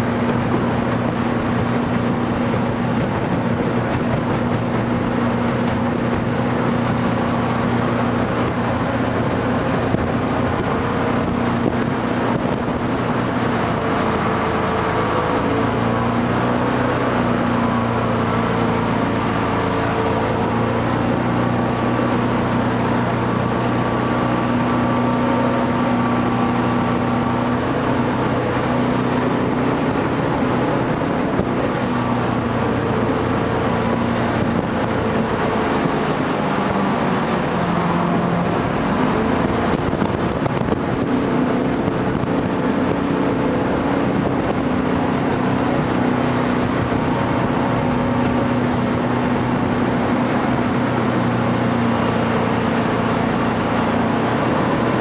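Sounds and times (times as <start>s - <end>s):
jet boat engine: 0.0s - 55.0s
rushing noise: 0.0s - 55.0s.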